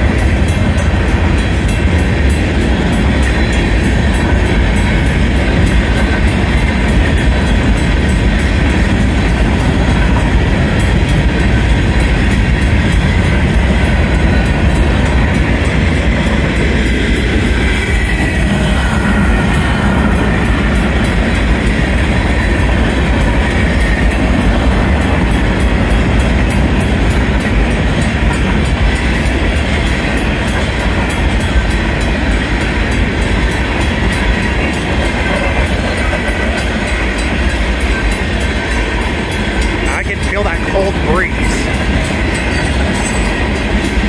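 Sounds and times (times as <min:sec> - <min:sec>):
train wheels rumbling and rattling: 0:00.0 - 0:44.0.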